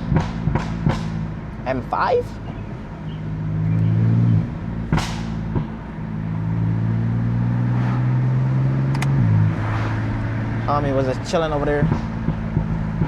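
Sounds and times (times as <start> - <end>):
car engine under load: 0.0 - 13.0
exhaust crack: 0.0 - 13.0.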